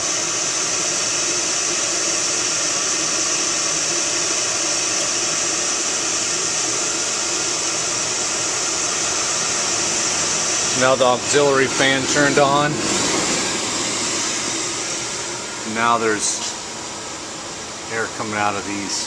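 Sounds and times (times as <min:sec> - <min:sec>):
constant low hum: 0:00.0 - 0:19.0
oil burner rushing hiss: 0:00.0 - 0:19.0.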